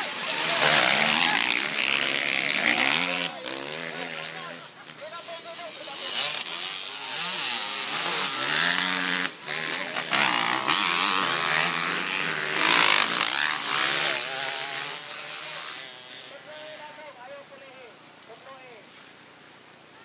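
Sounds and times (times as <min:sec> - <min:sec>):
dirt bike engines revving: 0:00.0 - 0:18.9.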